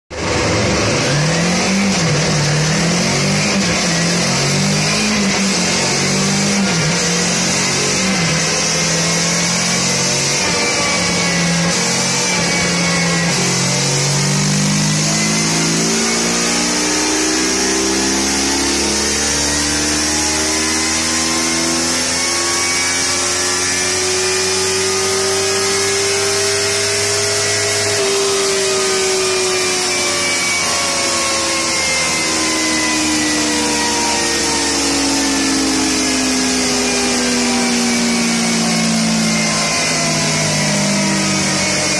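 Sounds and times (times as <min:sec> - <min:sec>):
motorcycle engine revving: 0:00.1 - 0:41.9.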